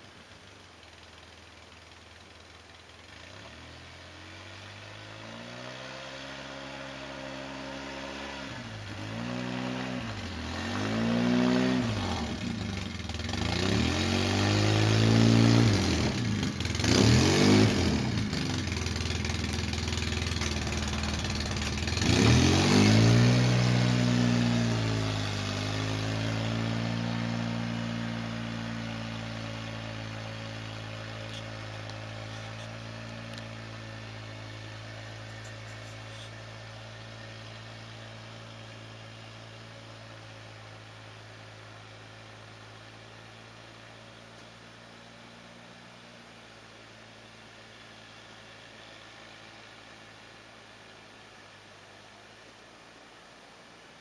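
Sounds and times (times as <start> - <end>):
plow blade pushing snow: 0.0 - 54.0
atv engine revving: 1.1 - 51.3.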